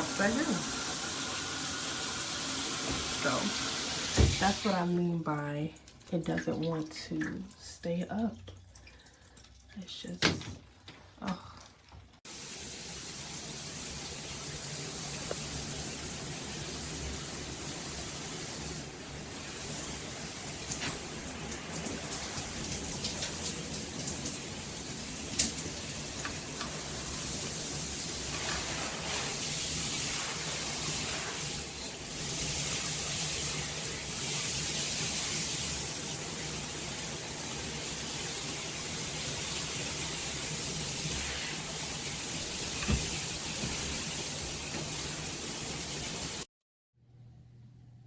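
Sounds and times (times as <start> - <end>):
shower spray splashing: 0.0 - 5.0, 12.3 - 46.5.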